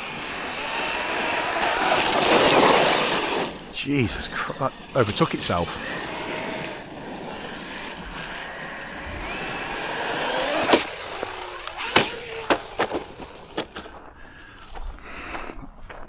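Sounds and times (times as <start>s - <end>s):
electric motor whining: 0.0s - 14.0s
tyres crunching on gravel: 0.0s - 16.0s.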